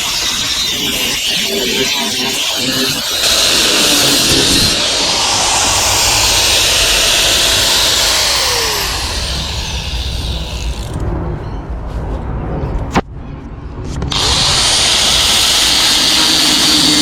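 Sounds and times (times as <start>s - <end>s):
power tool grinding: 0.0s - 11.0s, 14.1s - 17.0s.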